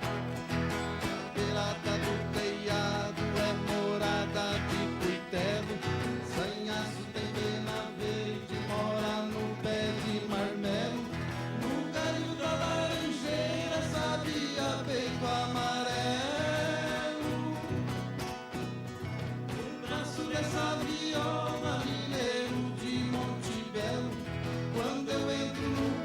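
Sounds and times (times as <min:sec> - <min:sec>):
person singing folk song: 0:00.0 - 0:26.0
strummed guitar: 0:00.0 - 0:26.0.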